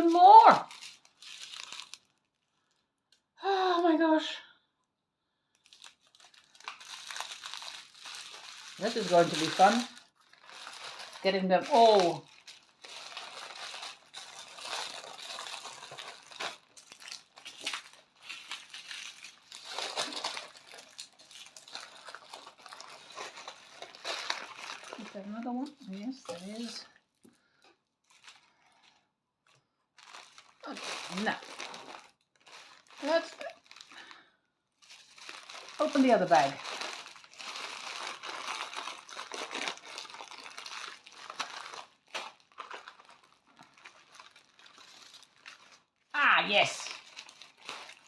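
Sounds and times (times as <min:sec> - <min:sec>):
plastic bags crinkling: 0:00.0 - 0:03.3, 0:05.5 - 0:48.0.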